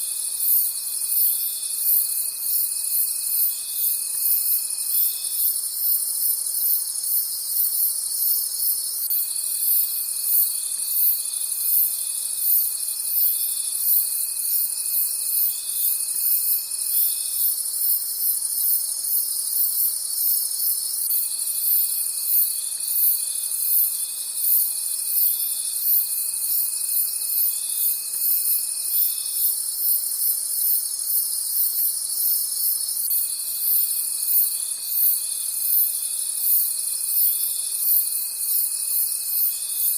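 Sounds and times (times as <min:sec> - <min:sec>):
crickets chirping: 0:00.0 - 0:39.9
low insect trill: 0:00.0 - 0:39.9.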